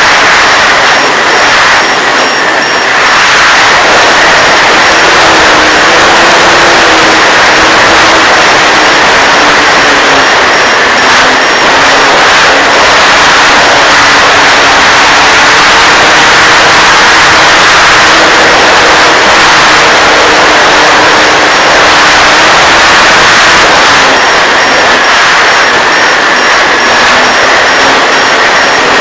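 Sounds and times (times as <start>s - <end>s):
loud steady rushing noise: 0.0s - 29.0s
model airplane motor droning: 0.0s - 29.0s.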